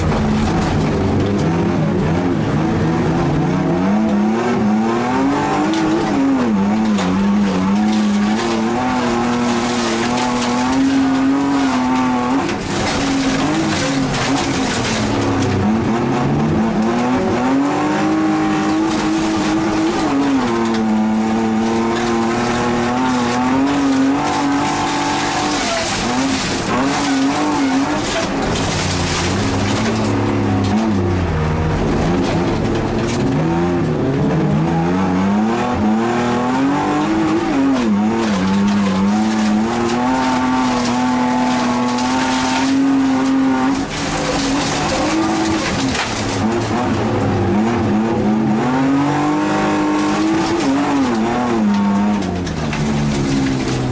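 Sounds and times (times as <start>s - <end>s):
race car engine revving: 0.0s - 53.9s
tyres on gravel: 4.4s - 34.5s, 35.5s - 53.9s.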